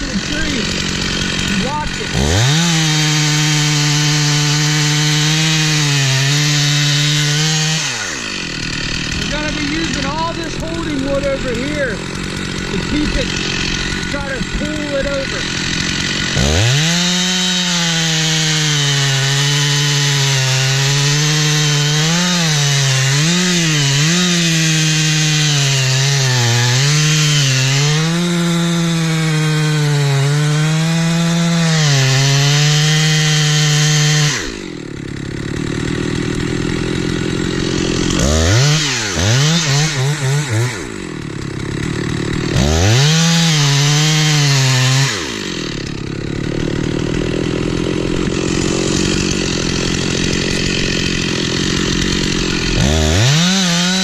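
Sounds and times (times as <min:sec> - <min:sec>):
chainsaw cutting into tree: 0:00.0 - 0:54.0.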